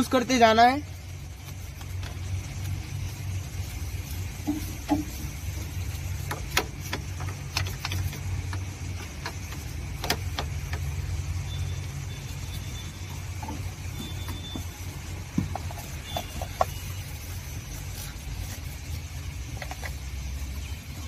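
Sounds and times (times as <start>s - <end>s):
brush scrubbing engine parts: 0.0s - 21.0s.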